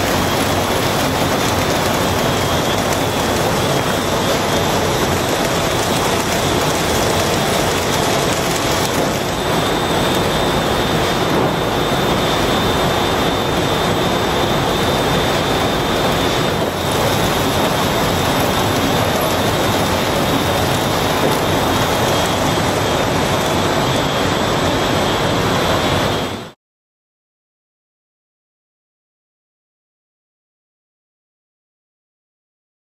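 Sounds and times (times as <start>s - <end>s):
factory machinery running: 0.0s - 26.6s.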